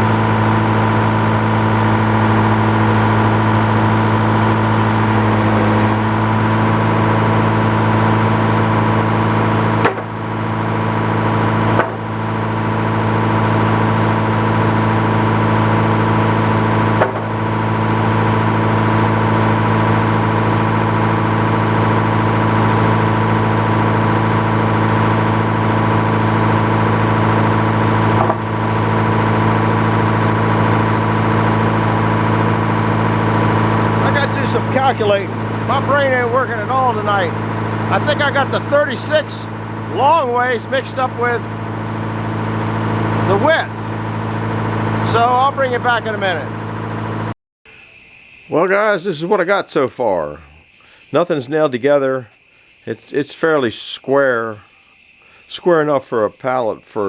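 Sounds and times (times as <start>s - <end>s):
engine running steadily: 0.0s - 47.4s.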